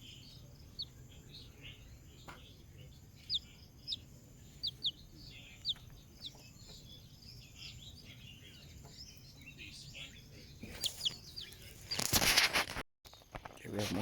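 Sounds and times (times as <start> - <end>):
chicks peeping: 0.0 - 14.0
chicks twittering: 0.0 - 14.0.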